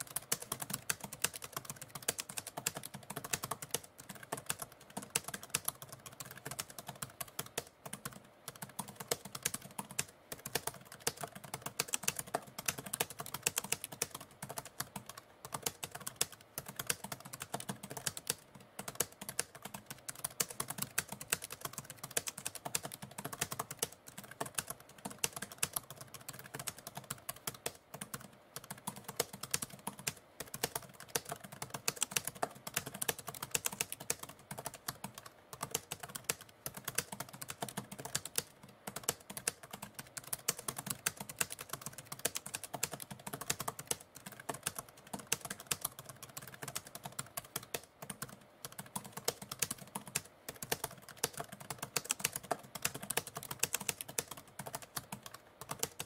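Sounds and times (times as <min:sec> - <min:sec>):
typewriter keys clacking: 0:00.0 - 0:56.0.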